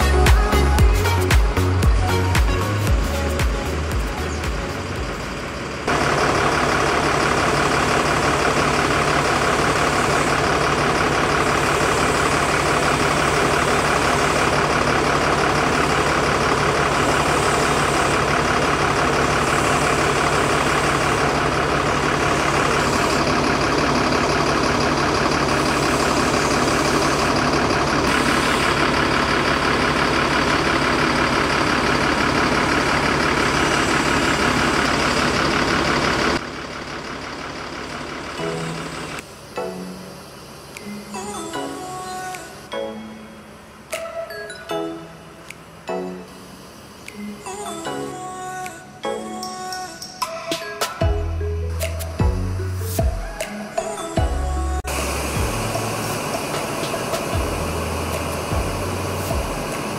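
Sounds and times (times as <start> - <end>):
diesel bus engine idling: 0.0 - 44.0, 51.0 - 53.4, 54.2 - 59.9.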